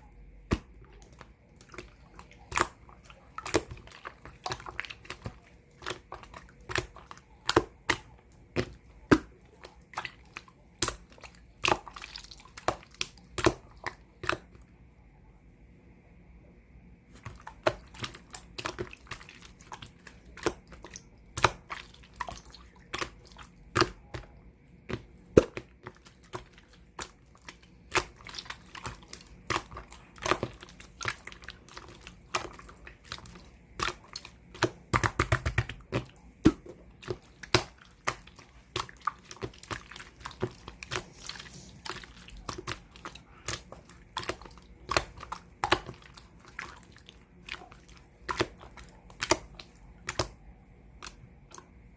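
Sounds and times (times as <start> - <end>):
slime squishing wet clicks: 0.4 - 14.6, 17.1 - 51.8.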